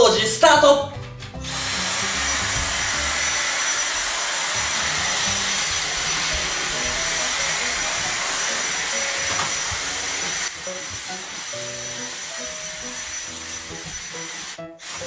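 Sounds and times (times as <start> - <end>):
vacuum cleaner running: 1.4 - 15.0.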